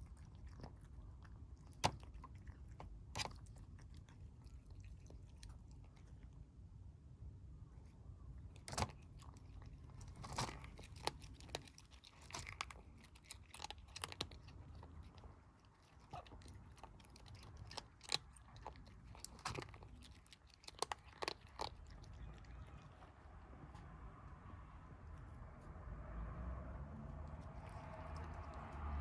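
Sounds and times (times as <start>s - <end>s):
kittens crunching food: 0.0s - 6.7s, 7.6s - 25.9s, 26.9s - 29.0s.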